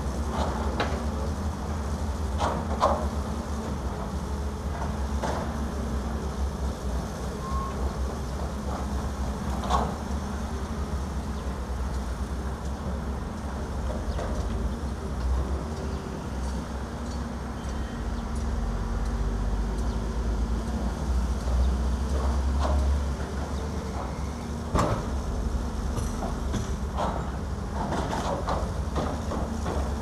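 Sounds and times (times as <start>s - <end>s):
diesel engines rumbling: 0.0s - 30.0s.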